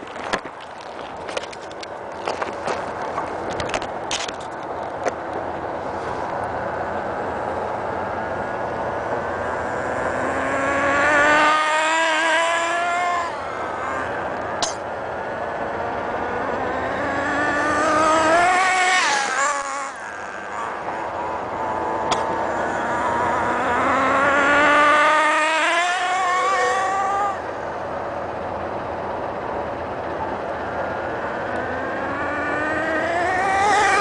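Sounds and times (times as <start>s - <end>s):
small nitro engine whining: 6.0s - 34.0s.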